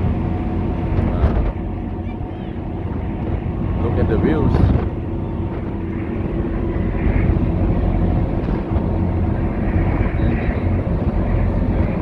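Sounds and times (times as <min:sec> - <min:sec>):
ferry engines rumbling: 0:00.0 - 0:12.0.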